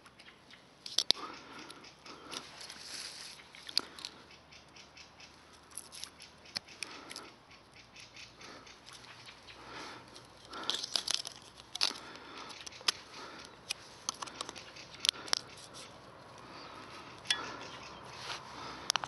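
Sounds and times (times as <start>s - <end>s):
hands clicking and scraping: 0.8s - 4.9s, 5.6s - 17.7s, 18.7s - 19.0s.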